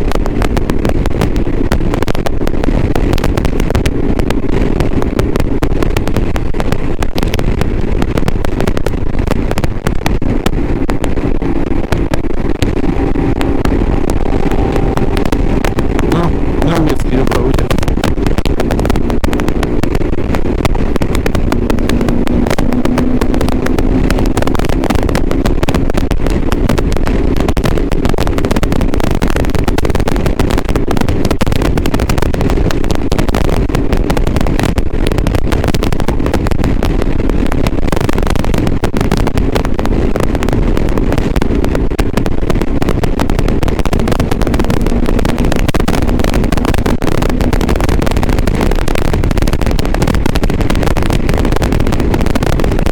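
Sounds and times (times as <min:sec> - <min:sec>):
motorcycle engine running: 0:00.0 - 0:52.9
wind rumble and crackle: 0:00.0 - 0:52.9.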